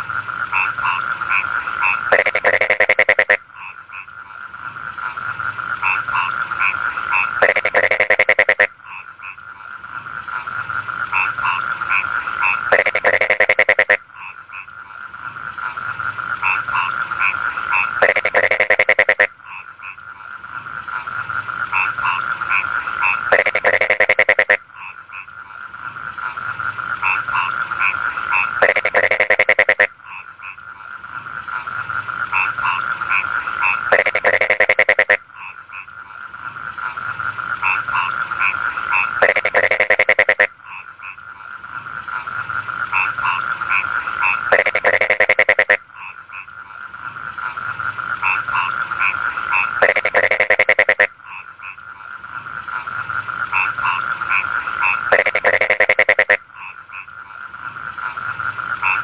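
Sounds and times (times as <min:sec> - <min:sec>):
frogs croaking in chorus: 0:00.0 - 0:59.0.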